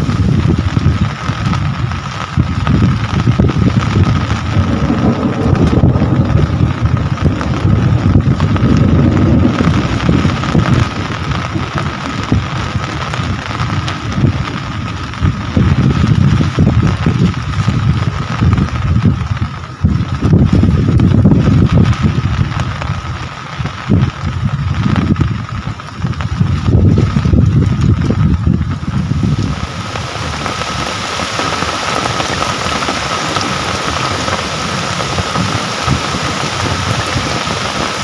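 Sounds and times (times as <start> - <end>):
heavy rain: 0.0 - 38.0
loud low rumble: 0.0 - 38.0.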